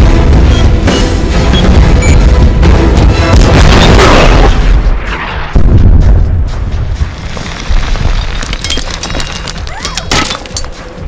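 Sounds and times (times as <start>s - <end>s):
dramatic music: 0.0s - 11.0s.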